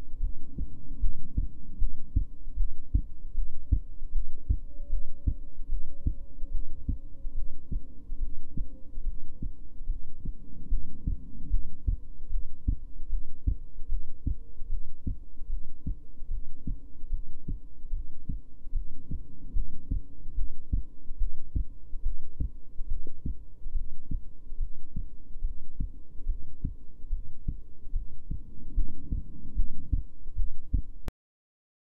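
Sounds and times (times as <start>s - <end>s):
heartbeat thuds: 0.2s - 31.0s.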